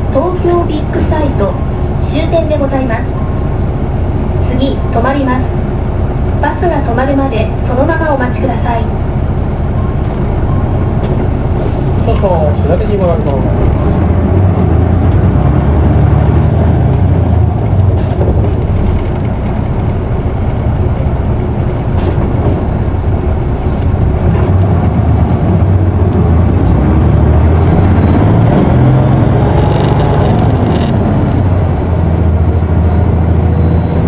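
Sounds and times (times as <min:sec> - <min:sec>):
bus diesel engine humming: 0:00.0 - 0:34.0.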